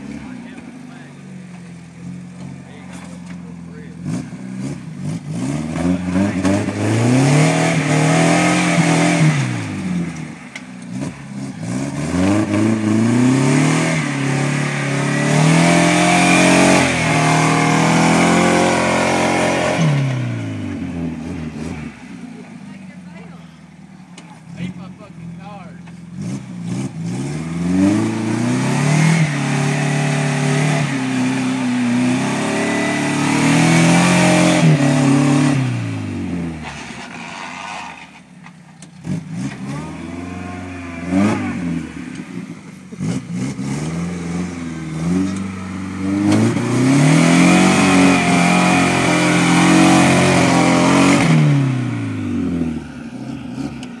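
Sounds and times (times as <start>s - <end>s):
engine revving hard: 3.7s - 10.2s, 10.9s - 22.1s, 26.1s - 38.1s, 39.0s - 54.0s.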